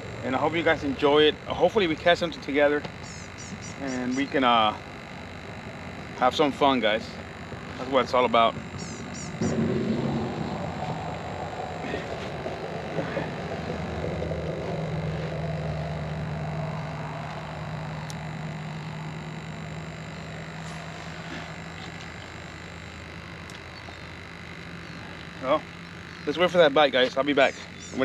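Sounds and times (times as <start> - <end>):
distant motor engine droning: 0.0 - 28.0.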